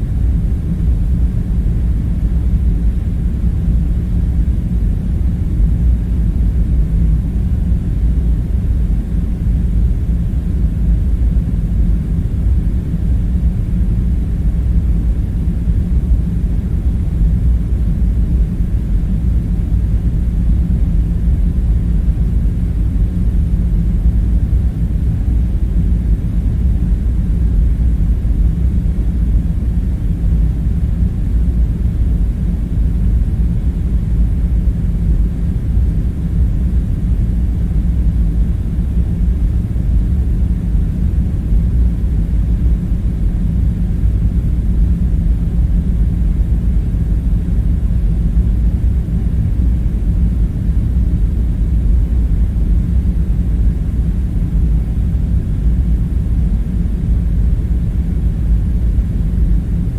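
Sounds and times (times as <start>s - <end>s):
low rumbling drone with hum: 0.0s - 59.9s.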